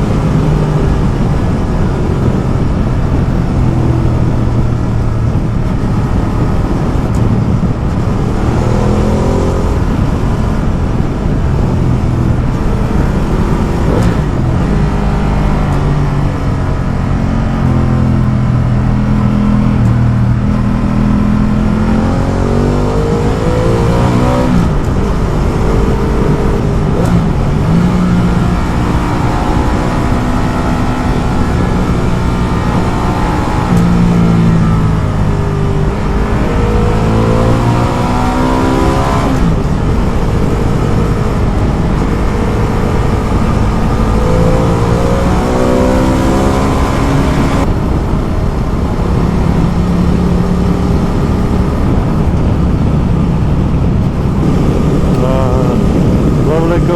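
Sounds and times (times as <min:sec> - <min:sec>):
motorcycle engine accelerating: 0:00.0 - 0:56.9
wind and road noise: 0:00.0 - 0:56.9.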